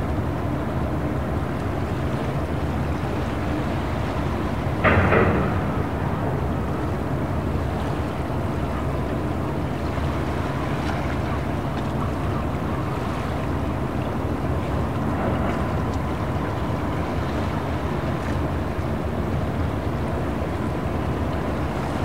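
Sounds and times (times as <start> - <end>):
boat engines rumbling: 0.0 - 22.0
water and wind noise: 0.0 - 22.0.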